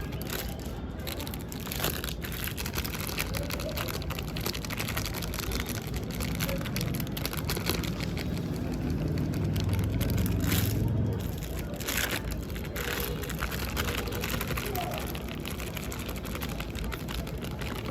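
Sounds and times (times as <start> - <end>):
balloons and packaging crackling: 0.0 - 17.9.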